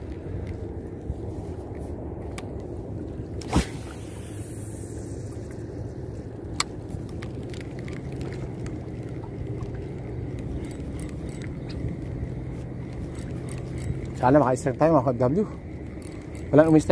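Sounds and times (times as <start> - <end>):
faint hum: 0.0 - 16.9
low outdoor rumble: 0.0 - 16.9.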